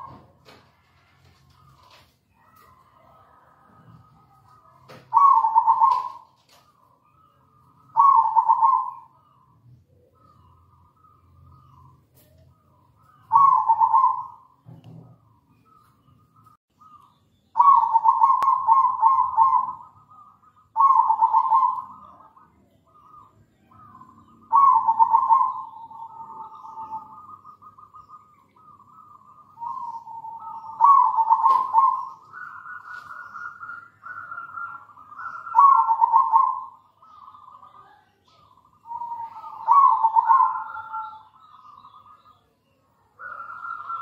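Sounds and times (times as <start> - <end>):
dove cooing: 0.0 - 44.0.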